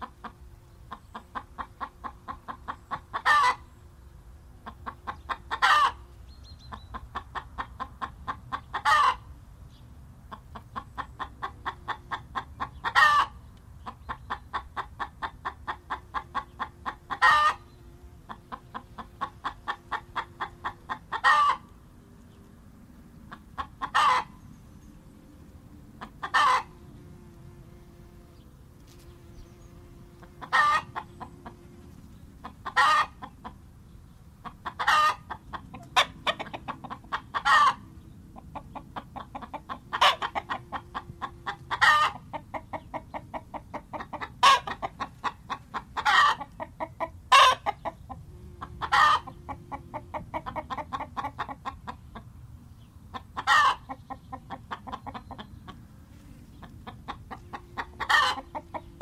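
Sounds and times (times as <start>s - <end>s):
chicken clucking and squawking: 0.0s - 3.8s, 4.6s - 9.3s, 10.3s - 21.7s, 23.2s - 24.4s, 25.8s - 26.9s, 30.2s - 33.7s, 34.4s - 59.0s.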